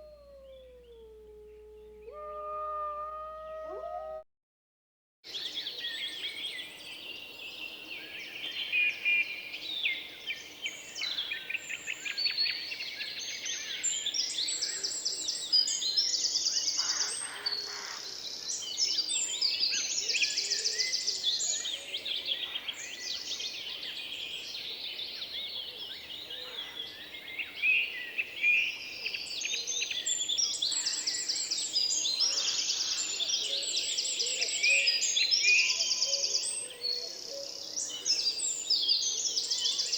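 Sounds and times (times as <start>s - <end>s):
songbirds chirping and trilling: 5.3s - 39.9s.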